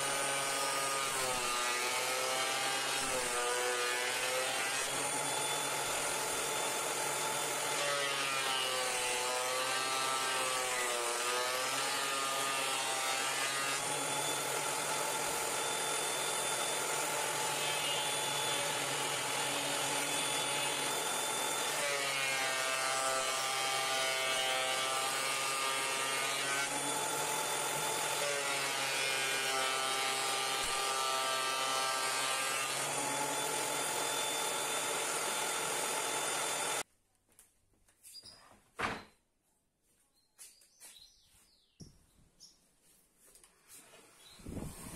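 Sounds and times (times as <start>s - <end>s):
thickness planer whining: 0.0s - 36.9s.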